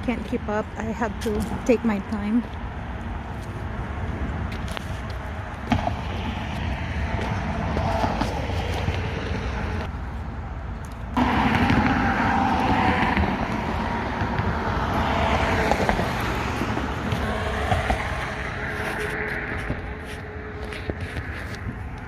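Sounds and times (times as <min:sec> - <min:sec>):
wind buffeting microphone: 0:00.0 - 0:10.2, 0:11.1 - 0:22.0.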